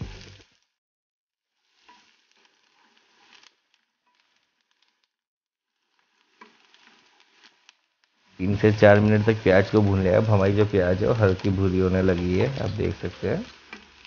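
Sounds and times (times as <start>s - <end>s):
wooden spatula stirring in pan: 0.0s - 0.6s, 1.6s - 5.0s, 5.8s - 14.0s
onions sizzling in oil: 0.0s - 0.7s, 1.4s - 5.0s, 5.7s - 14.0s.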